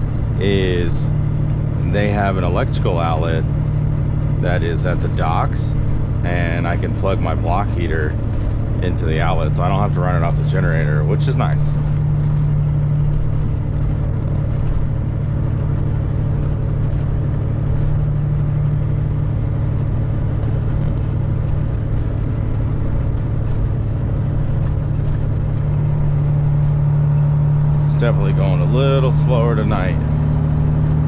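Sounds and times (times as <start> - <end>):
diesel truck engine droning: 0.0 - 31.0
road noise: 0.0 - 31.0.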